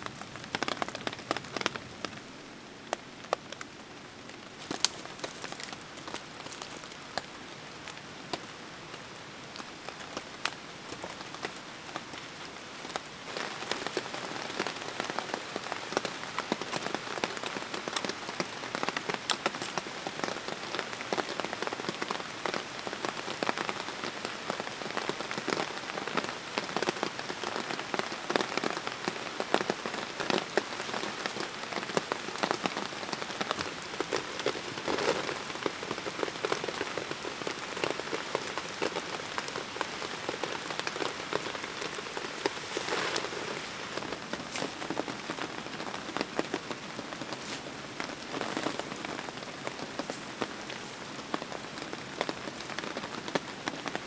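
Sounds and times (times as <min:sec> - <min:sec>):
rain falling on leaves: 0:00.0 - 0:54.0.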